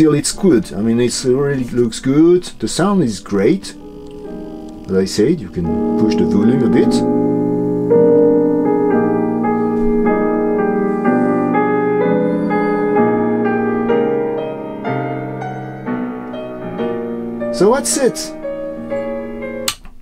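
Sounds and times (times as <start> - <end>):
piano music from small radio speaker: 0.0 - 19.9.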